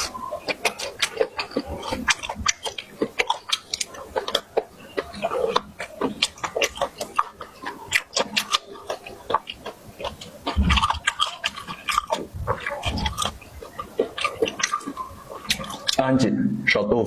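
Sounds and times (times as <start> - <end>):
chewing and lip-smacking: 0.0 - 16.1
low murmuring: 0.0 - 17.0.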